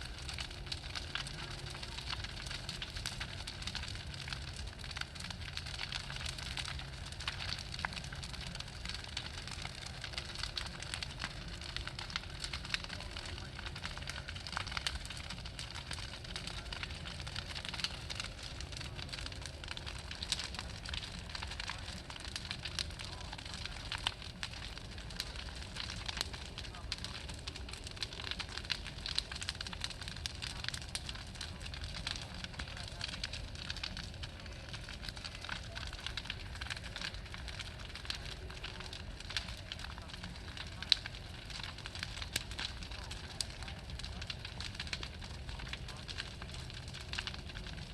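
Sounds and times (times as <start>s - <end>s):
bonfire crackling and popping: 0.0s - 47.9s
low steady fire rumble: 0.0s - 47.9s.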